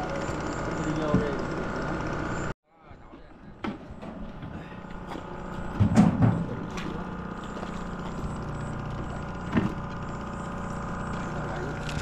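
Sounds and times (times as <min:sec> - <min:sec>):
small motor humming: 0:00.0 - 0:02.6, 0:04.6 - 0:12.0.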